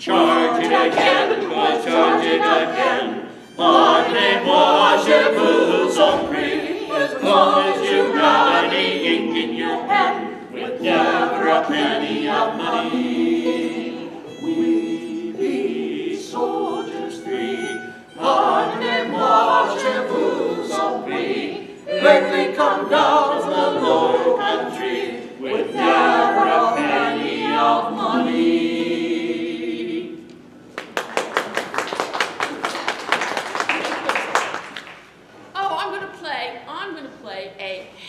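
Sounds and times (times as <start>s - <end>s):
voices singing in parts: 0.0s - 30.6s.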